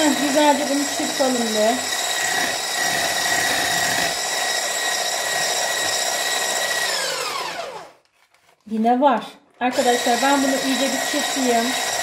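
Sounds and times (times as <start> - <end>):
electric whisk motor whine: 0.0 - 8.0, 9.7 - 12.0.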